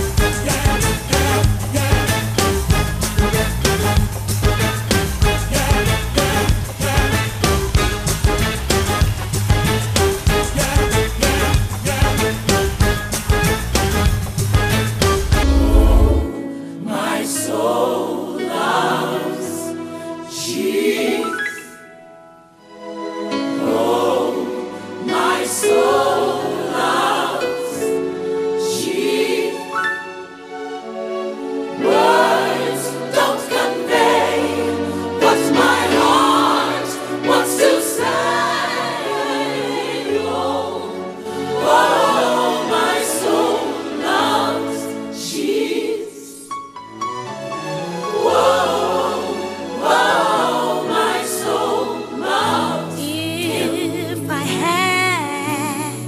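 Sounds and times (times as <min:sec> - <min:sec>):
gospel choir singing: 0:00.0 - 0:21.8, 0:22.8 - 0:46.5, 0:47.7 - 0:54.8
music: 0:00.0 - 0:56.0.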